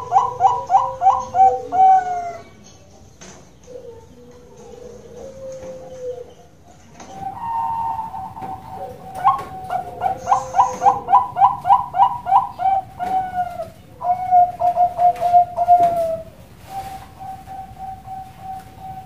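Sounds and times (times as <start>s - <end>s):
dove cooing: 0.0s - 2.6s, 3.7s - 19.0s.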